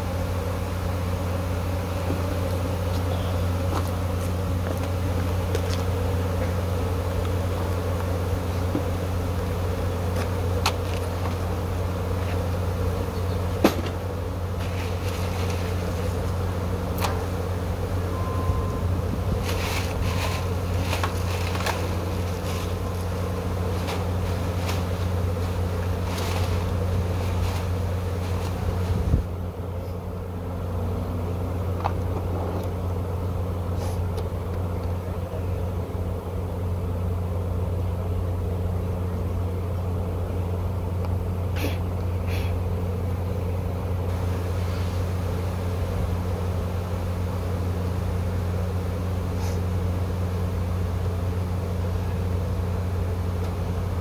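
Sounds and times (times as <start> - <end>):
honeybee swarm buzzing: 0.0 - 54.0.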